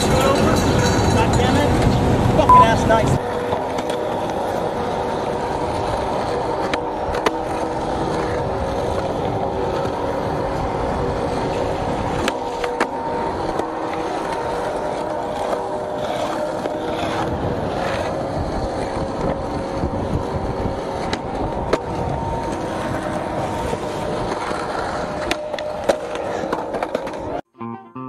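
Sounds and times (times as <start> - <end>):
skateboard clacking on ground: 0.0 - 27.4
skateboard wheels rolling on pavement: 0.0 - 27.4.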